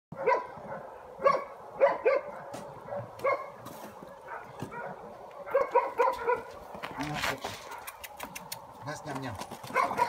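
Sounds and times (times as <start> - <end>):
dogs yapping: 0.1 - 8.7, 9.5 - 10.0.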